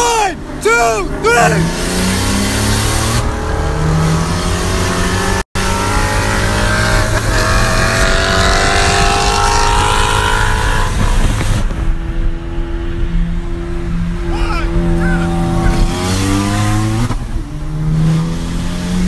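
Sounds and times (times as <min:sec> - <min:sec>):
car engines accelerating hard: 0:00.0 - 0:19.0.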